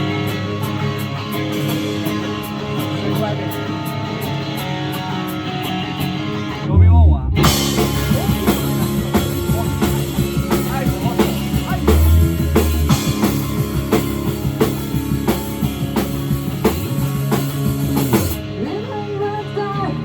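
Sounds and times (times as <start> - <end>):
drum kit beat: 0.0 - 6.6, 7.4 - 19.0
electric guitar: 0.0 - 20.0
rock band playing live: 0.0 - 20.0.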